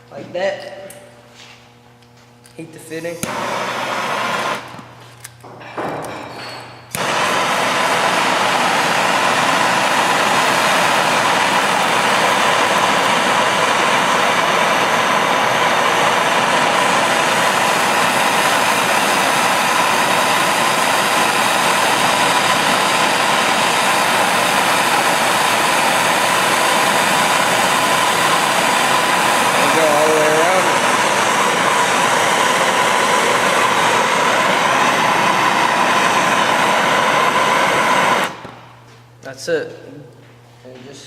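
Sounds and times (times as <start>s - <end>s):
gas torch hissing flame: 2.7s - 5.0s, 6.9s - 38.7s.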